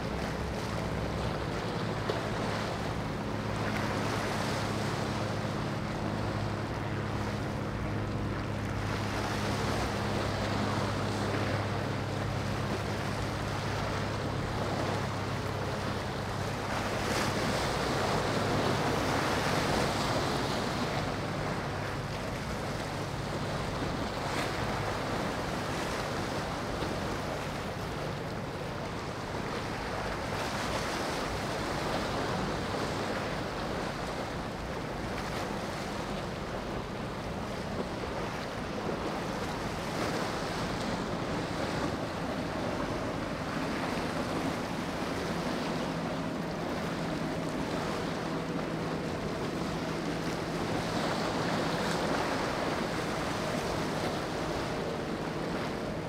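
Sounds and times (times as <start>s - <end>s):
faint low engine hum: 0.0s - 56.0s
surf washing against rocks: 0.0s - 56.0s.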